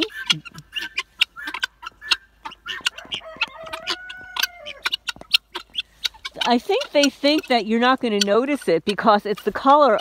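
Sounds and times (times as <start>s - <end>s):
guinea fowl chattering clicks: 0.0s - 10.0s
guinea fowl drawn-out call: 0.0s - 10.0s.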